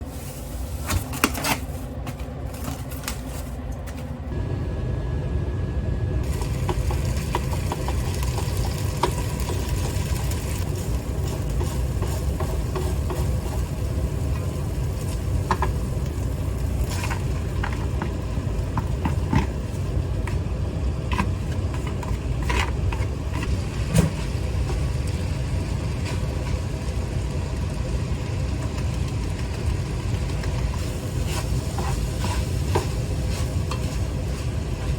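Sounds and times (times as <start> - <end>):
steady low rumble: 3.4 - 34.9.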